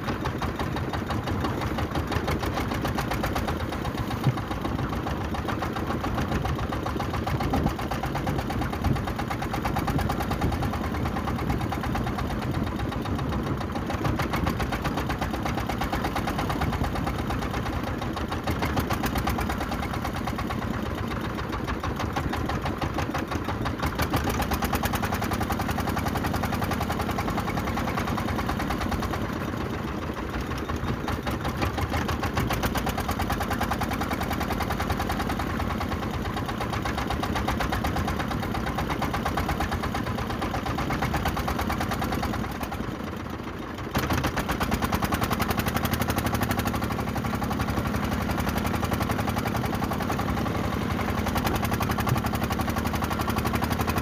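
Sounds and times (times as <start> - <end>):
boat engine knocking: 0.0 - 54.0
wind: 0.0 - 54.0.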